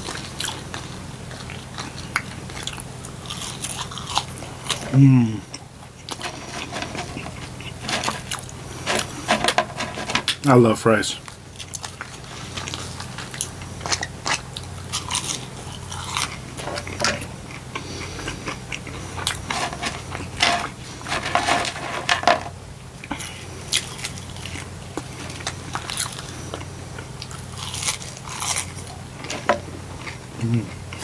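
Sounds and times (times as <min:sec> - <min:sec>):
chewing crispy fries: 0:00.0 - 0:21.9, 0:22.8 - 0:31.0
low steady hum: 0:00.0 - 0:31.0.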